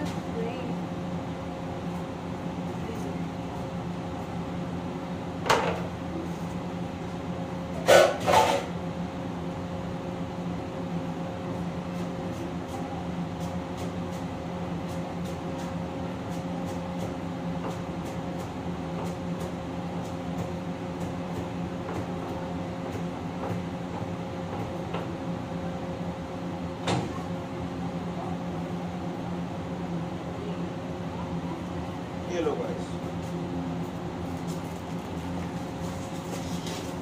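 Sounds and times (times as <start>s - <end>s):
exhaust hood fan drone: 0.0s - 37.0s.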